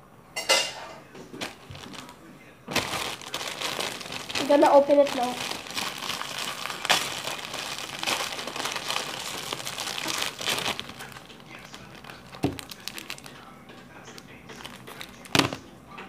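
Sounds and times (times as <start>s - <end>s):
plastic bag crinkling: 1.3s - 15.6s.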